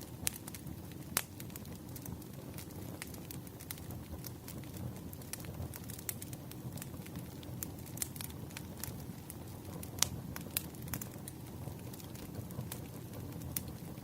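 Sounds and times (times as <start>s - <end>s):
fire low rumble: 0.0s - 14.0s
wood fire crackling and popping: 0.0s - 14.0s.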